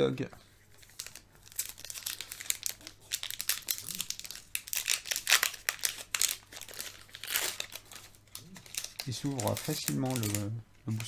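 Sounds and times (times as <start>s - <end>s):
foil wrapper crinkling: 0.7s - 11.0s.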